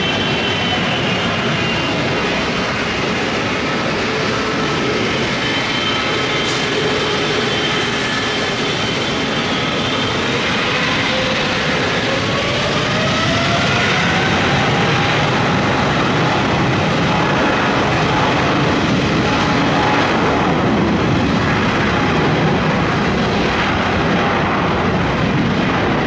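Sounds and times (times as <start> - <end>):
jet engine whine rising: 0.0 - 26.0
jet engines rumbling: 0.0 - 26.0.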